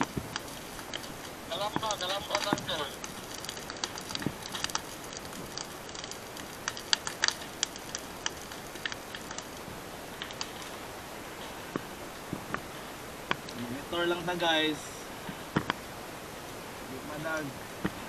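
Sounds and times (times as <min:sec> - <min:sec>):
dry grass burning and crackling: 0:00.0 - 0:18.0.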